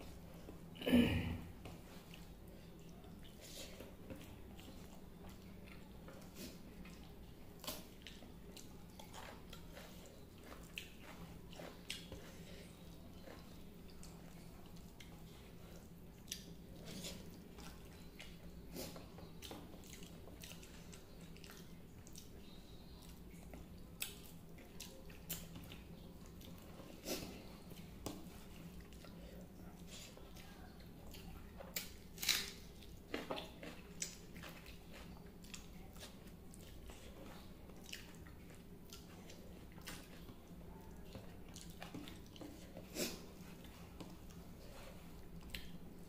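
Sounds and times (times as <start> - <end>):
man chewing food: 1.4 - 46.0.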